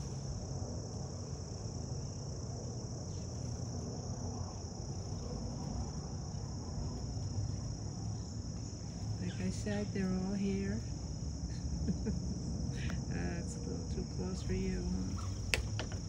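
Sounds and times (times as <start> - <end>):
insects chirping: 0.0 - 16.0
low background rumble: 0.0 - 16.0.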